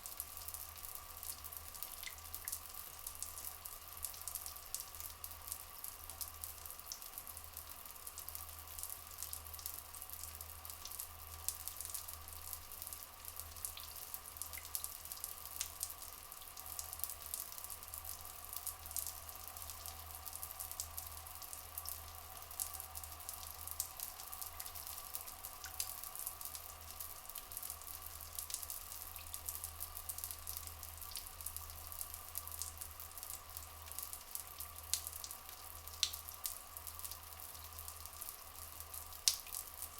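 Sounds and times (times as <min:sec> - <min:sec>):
water drips and splashes: 0:00.0 - 0:39.9
water trickling: 0:00.0 - 0:39.9.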